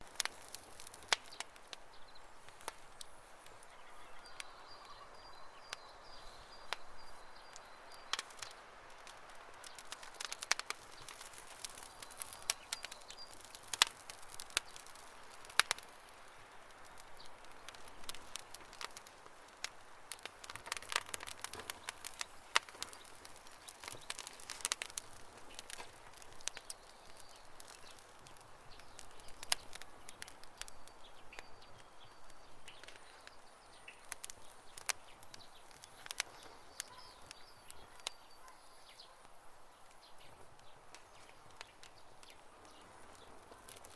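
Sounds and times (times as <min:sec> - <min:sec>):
campfire crackling and popping: 0:00.0 - 0:43.9
soft hiss of flames: 0:00.0 - 0:43.9.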